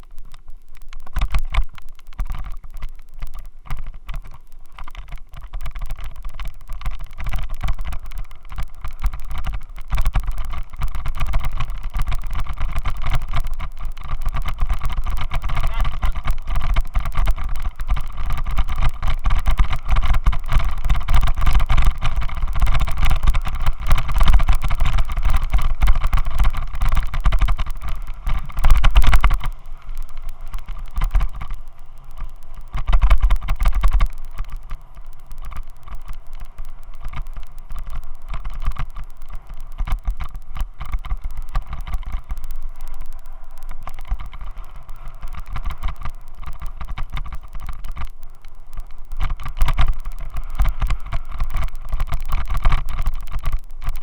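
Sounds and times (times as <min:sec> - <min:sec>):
heavy vibration rumble: 0:00.0 - 0:54.0
vehicle engine running: 0:00.0 - 0:54.0.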